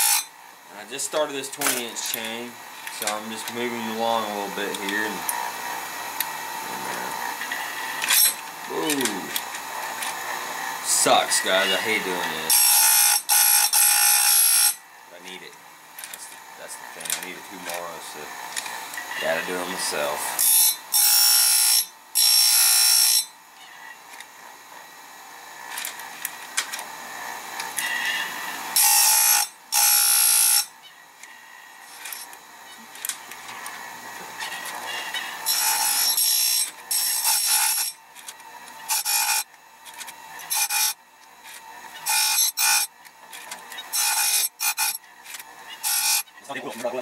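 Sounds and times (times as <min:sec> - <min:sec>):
loud grinding burst: 0:00.0 - 0:23.3, 0:25.3 - 0:47.0
grinder wheel humming: 0:00.0 - 0:47.0.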